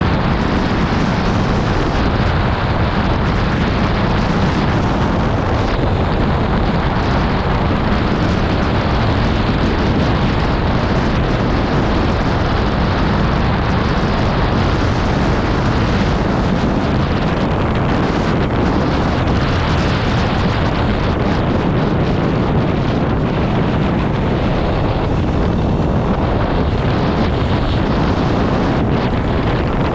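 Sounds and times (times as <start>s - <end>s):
truck rumbling: 0.0s - 29.9s
wind buffeting microphone: 0.0s - 29.9s.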